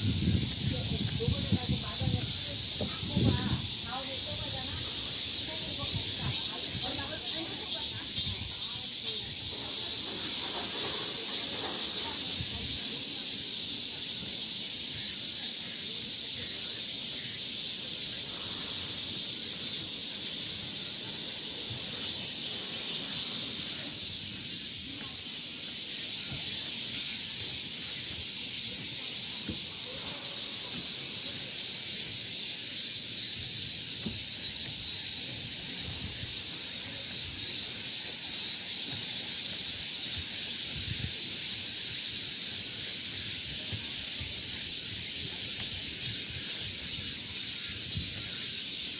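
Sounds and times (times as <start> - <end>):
insects chorus: 0.0 - 48.9.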